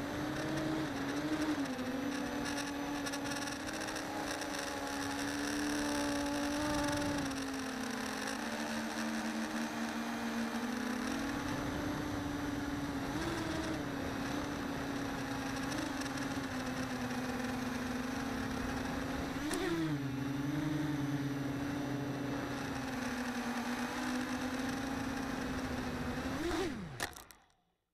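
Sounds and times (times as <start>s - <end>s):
drone motors whining: 0.0s - 27.4s.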